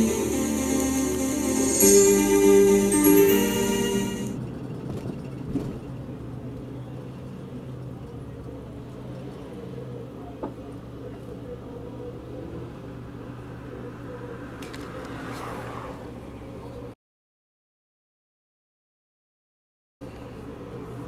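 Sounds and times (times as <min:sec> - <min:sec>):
car engine and road rumble: 0:00.0 - 0:17.0, 0:20.0 - 0:21.0.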